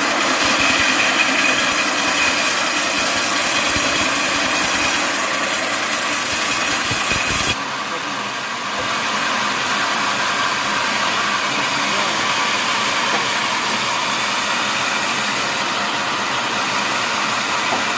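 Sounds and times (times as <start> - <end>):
sawmill machinery running: 0.0 - 17.9.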